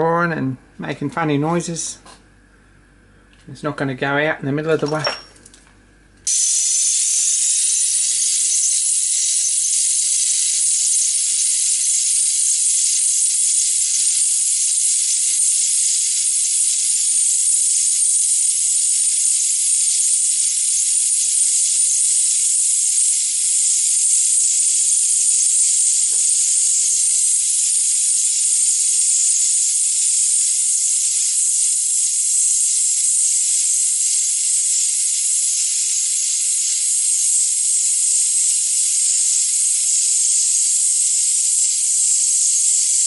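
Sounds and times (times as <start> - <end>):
gas torch hissing: 6.2 - 43.0.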